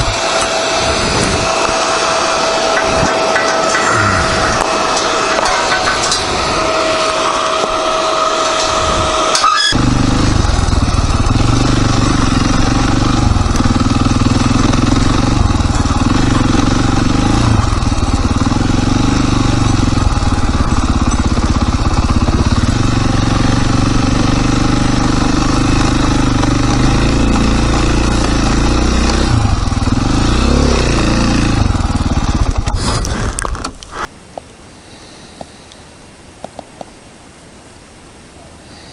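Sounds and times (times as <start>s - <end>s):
steady high whine: 0.0s - 32.8s
dirt bike engine running: 0.0s - 34.1s.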